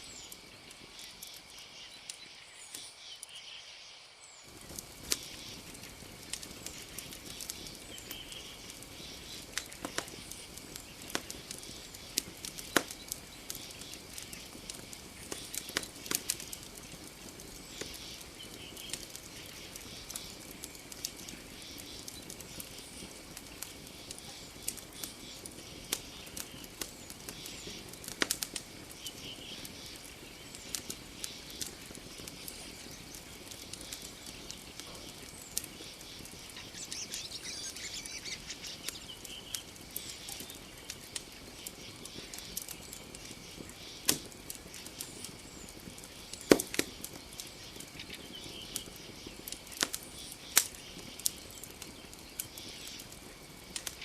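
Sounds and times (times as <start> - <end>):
campfire crackling and popping: 0.0 - 3.0, 4.4 - 54.0.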